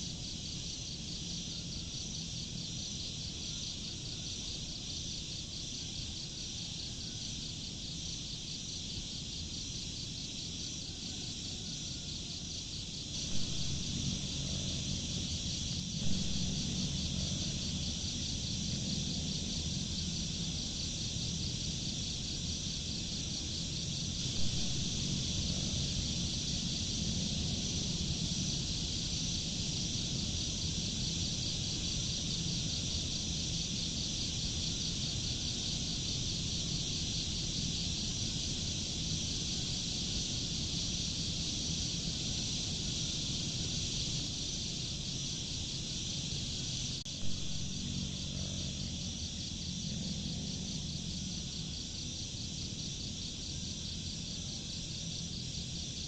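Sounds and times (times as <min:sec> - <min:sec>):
crickets trilling: 0:00.0 - 0:56.0
low rumbling hiss: 0:00.0 - 0:56.0.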